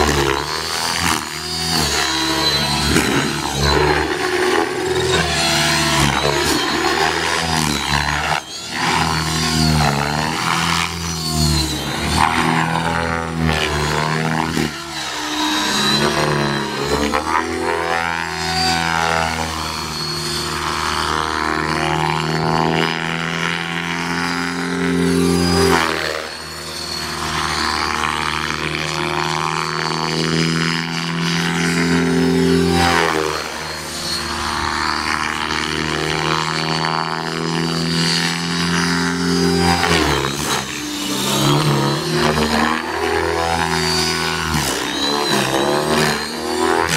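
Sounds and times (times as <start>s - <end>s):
model helicopter engine and rotor drone: 0.0s - 46.9s.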